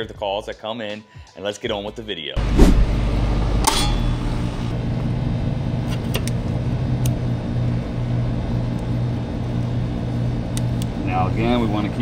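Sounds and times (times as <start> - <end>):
air conditioning hum: 2.4 - 12.0.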